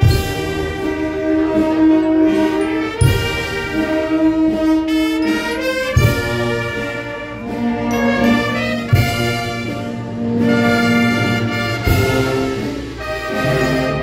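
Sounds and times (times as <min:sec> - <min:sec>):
brass band funeral march: 0:00.0 - 0:14.0.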